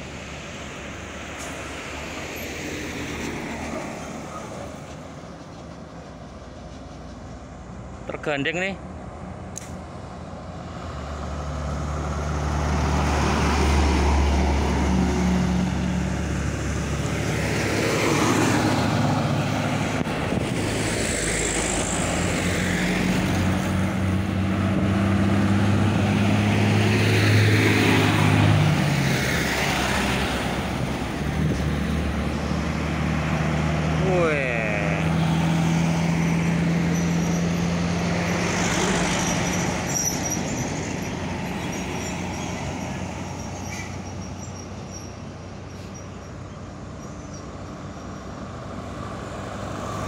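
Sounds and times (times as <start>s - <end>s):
heavy trucks driving past: 0.0s - 50.0s.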